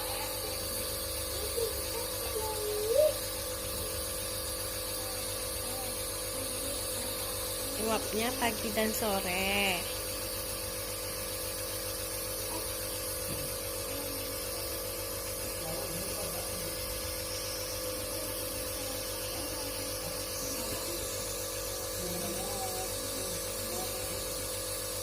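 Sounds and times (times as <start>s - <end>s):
nebulizer motor hum: 0.0s - 25.0s.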